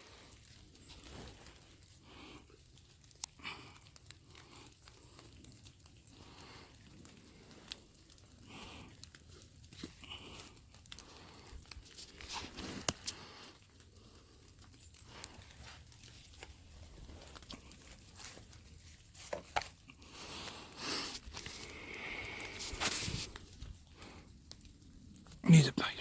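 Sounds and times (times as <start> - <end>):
rustling and crunching: 0.0 - 25.4.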